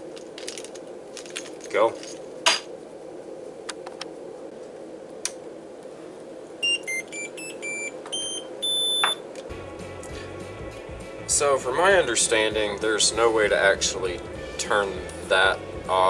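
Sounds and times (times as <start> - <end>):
steady hum: 0.0 - 8.6, 9.3 - 16.0.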